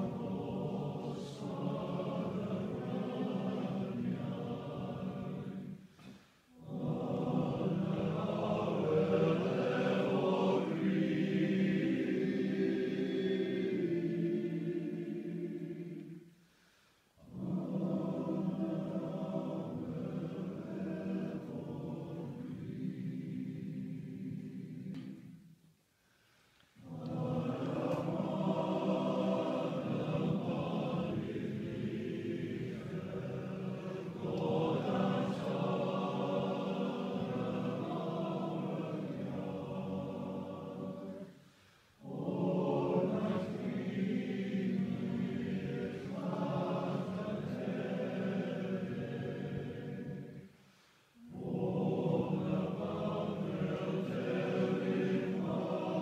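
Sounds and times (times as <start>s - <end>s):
choir singing: 0.0s - 16.5s, 17.2s - 25.6s, 26.8s - 56.0s.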